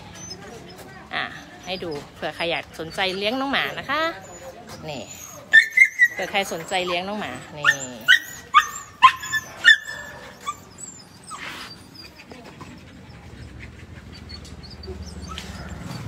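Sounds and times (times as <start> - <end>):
dog whimpering: 0.0 - 16.0.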